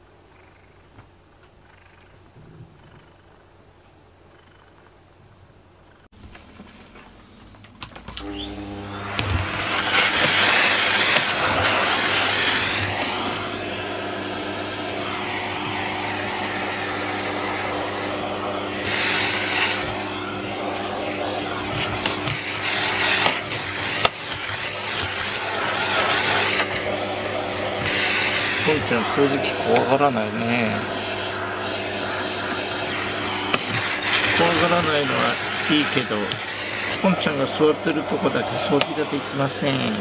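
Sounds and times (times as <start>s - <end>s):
vacuum cleaner running: 7.0s - 40.0s.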